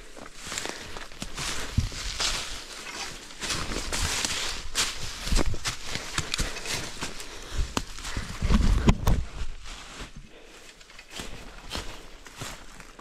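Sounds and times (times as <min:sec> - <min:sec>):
footsteps crunching leaves and twigs: 0:00.0 - 0:13.0.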